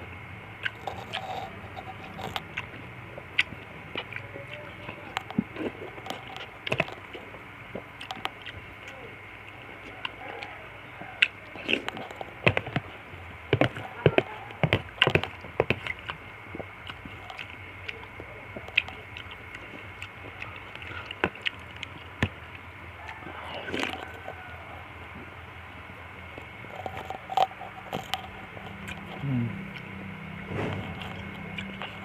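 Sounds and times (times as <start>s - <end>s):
chewing: 0.6s - 32.0s.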